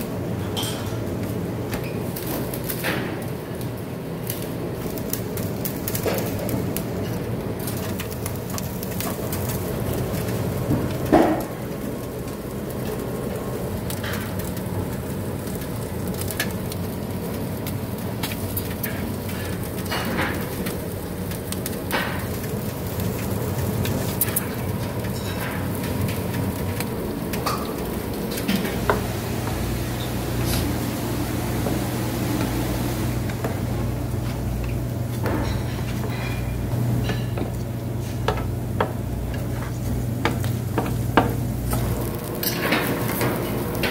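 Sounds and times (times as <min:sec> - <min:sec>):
fish sizzling on a grill: 0:00.0 - 0:43.9.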